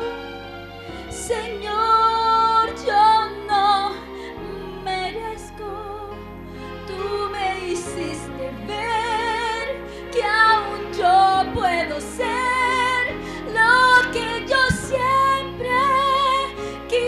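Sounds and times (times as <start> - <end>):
instrumental accompaniment: 0.0 - 17.0
woman singing: 1.0 - 6.2, 6.8 - 17.0.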